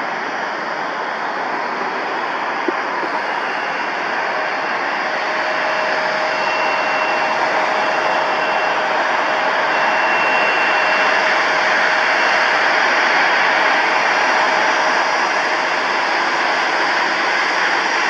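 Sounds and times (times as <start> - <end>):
jet engines rushing and whining: 0.0 - 18.0.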